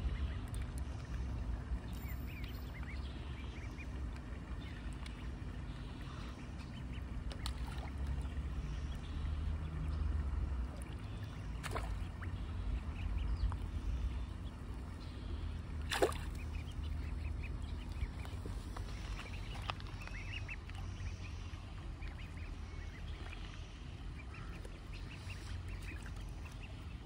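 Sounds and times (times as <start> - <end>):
pond water sloshing and lapping: 0.0 - 27.0
steady low rumble: 0.0 - 27.0.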